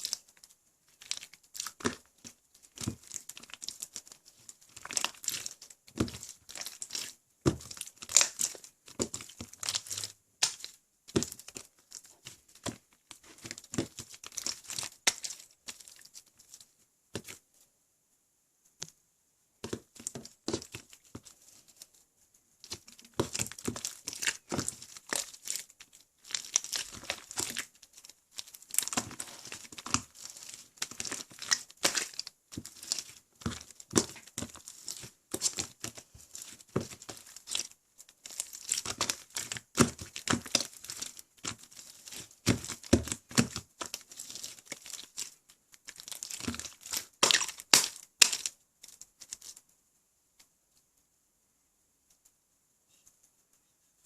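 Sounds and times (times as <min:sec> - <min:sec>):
slime squished by hand: 0:00.0 - 0:17.4, 0:22.6 - 0:49.6.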